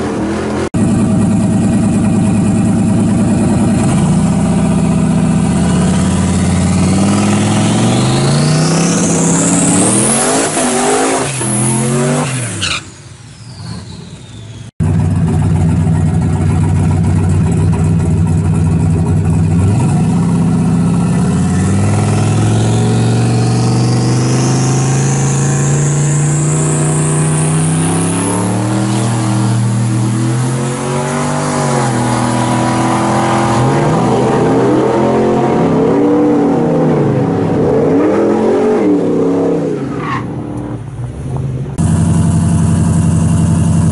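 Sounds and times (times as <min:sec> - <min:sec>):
truck engine idling and revving: 0:00.0 - 0:43.9.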